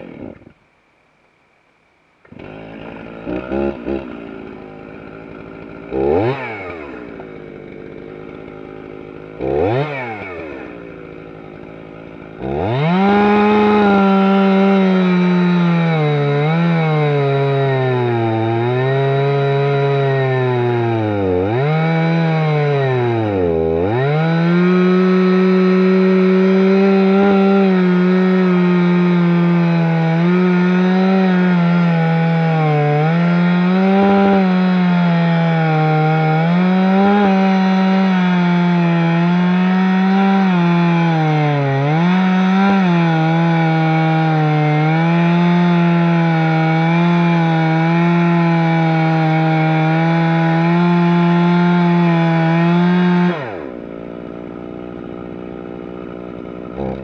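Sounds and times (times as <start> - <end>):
chainsaw cutting wood: 0.0 - 0.6, 2.2 - 57.0
chainsaw idling and revving: 0.0 - 0.6, 2.2 - 57.0.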